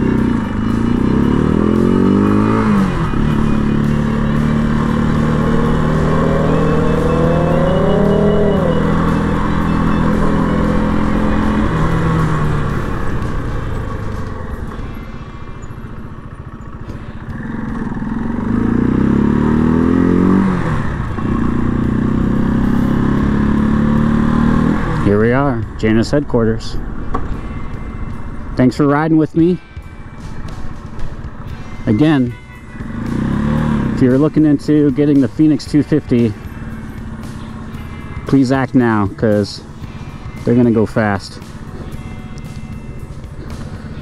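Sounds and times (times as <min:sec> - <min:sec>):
motorcycle engine shifting gears: 0:00.0 - 0:44.0.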